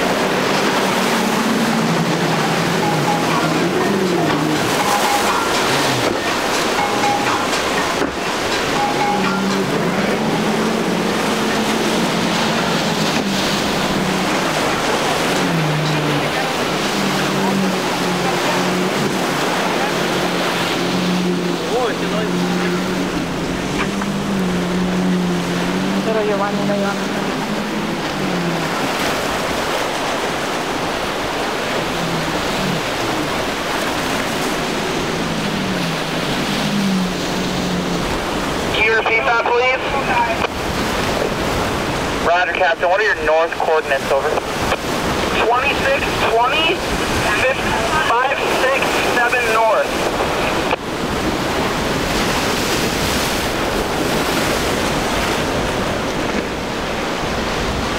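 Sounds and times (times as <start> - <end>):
outboard engines droning: 0.0 - 57.9
rough surf: 0.0 - 57.9
rushing water: 0.0 - 57.9
wind: 0.0 - 57.9.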